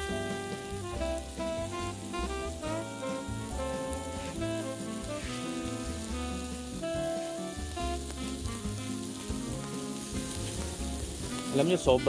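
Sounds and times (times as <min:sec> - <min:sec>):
bossa nova music: 0:00.0 - 0:12.0
chicken sizzling on a grill: 0:00.0 - 0:12.0.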